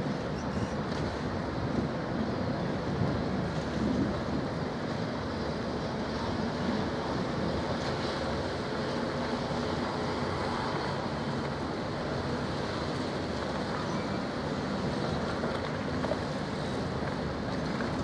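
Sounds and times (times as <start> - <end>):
water washing along hull: 0.0 - 18.0.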